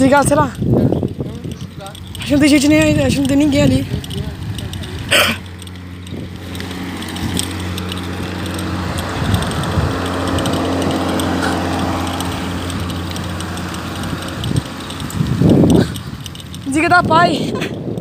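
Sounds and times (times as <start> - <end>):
wind on microphone: 0.0 - 5.2, 5.9 - 18.0
bicycle tyre rolling: 0.0 - 18.0.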